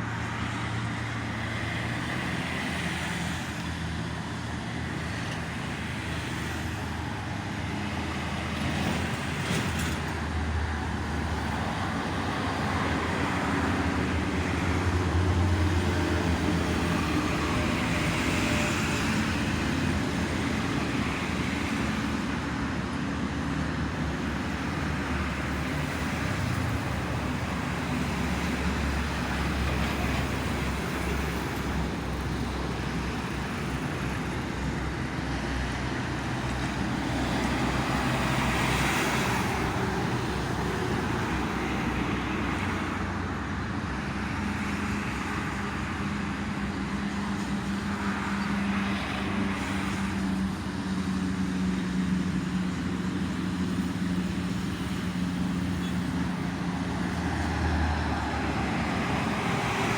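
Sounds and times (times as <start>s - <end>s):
road traffic: 0.0s - 59.9s
vehicles passing: 0.0s - 59.9s.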